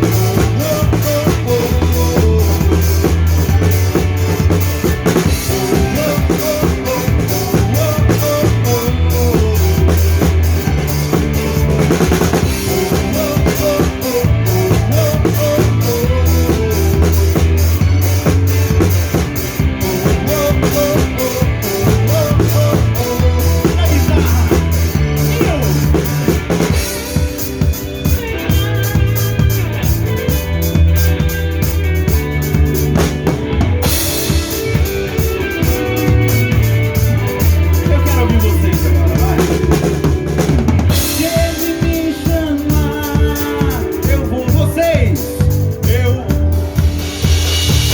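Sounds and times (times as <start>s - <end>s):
band playing live: 0.0s - 47.9s
drum kit beat: 0.0s - 47.9s
walking bass line: 0.0s - 47.9s.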